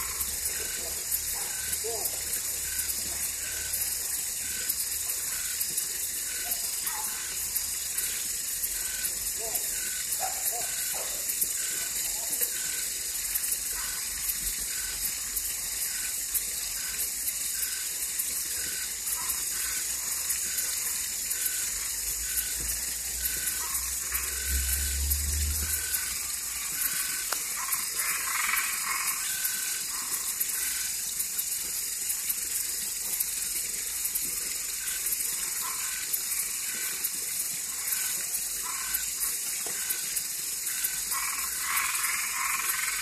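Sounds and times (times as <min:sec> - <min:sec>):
short frog call: 0:00.0 - 0:15.2, 0:15.8 - 0:31.0, 0:34.8 - 0:43.0
frogs chorus rattling buzz: 0:00.0 - 0:43.0.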